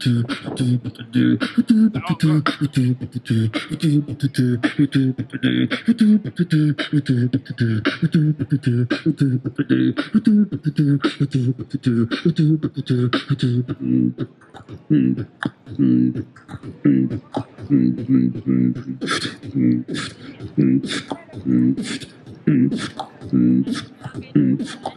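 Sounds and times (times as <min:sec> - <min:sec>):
beatboxing into a microphone: 0:00.0 - 0:24.9.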